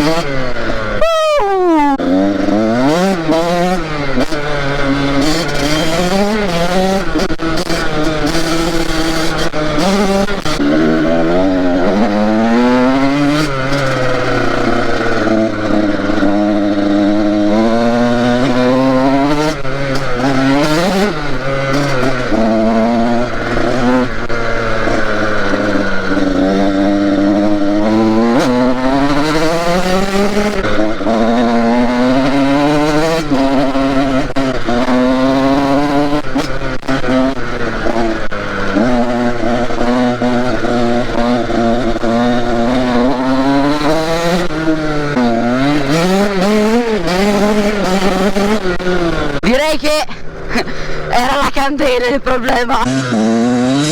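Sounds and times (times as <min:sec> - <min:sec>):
two-stroke motorcycle engine revving: 0:00.0 - 0:53.9.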